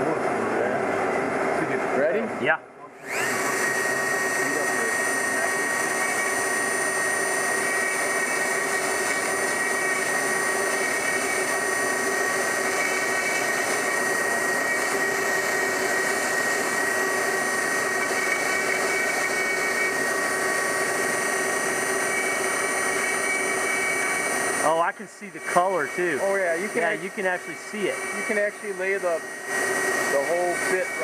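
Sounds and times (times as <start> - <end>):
rotary tool grinding metal: 3.0 - 31.0.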